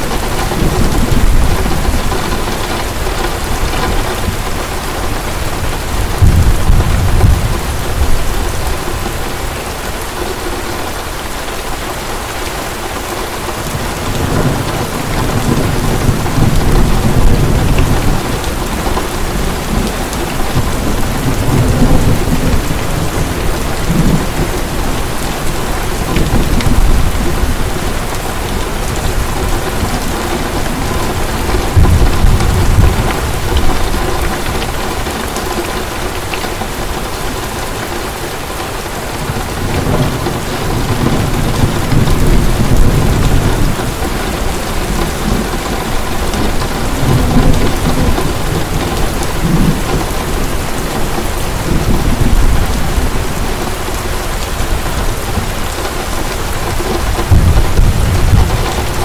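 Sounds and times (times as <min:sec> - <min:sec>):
deep thunder rumbles: 0:00.0 - 0:09.6, 0:13.6 - 0:37.6, 0:39.2 - 0:59.0
heavy rain falling: 0:00.0 - 0:59.0.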